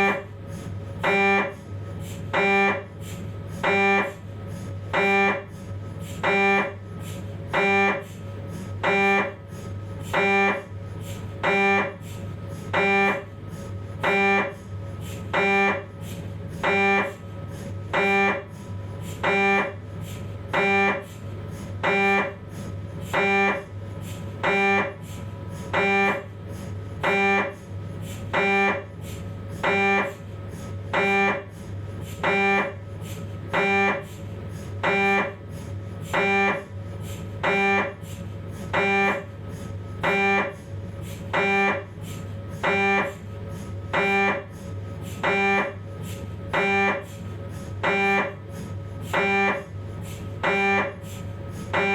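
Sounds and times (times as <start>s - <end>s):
mri scanner buzzing pulses: 0.0s - 51.9s
steady low hum: 0.0s - 51.9s.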